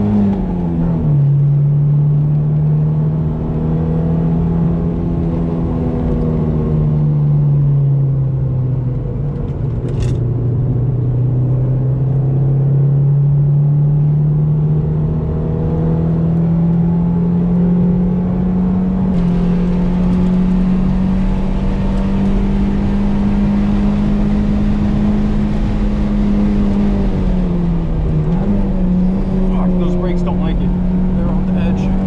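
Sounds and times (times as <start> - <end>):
car engine at high revs: 0.0 - 32.0.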